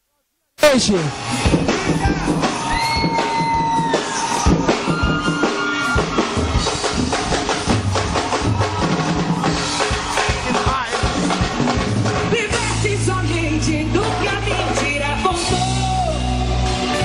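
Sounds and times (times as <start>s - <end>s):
band playing drum beat: 0.7s - 17.0s.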